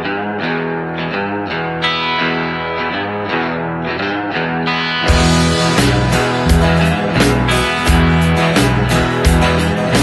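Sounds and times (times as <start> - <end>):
electric guitar rock riff: 0.0 - 10.0.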